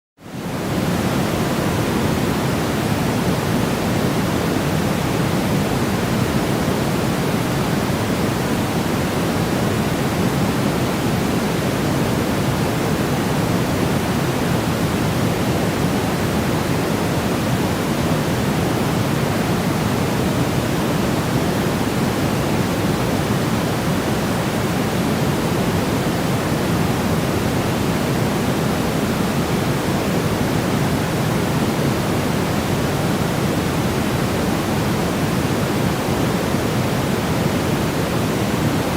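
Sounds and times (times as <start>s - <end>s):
steady white noise hiss: 0.2s - 38.9s.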